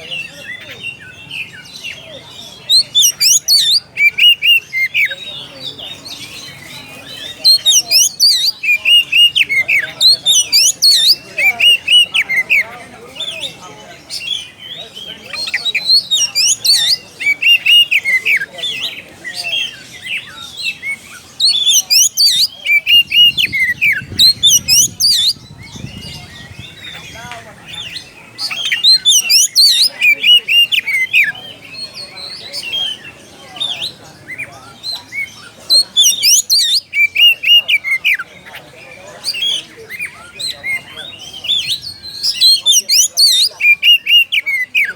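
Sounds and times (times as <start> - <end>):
bird singing chirps and whistles: 0.0 - 38.6, 39.2 - 44.9.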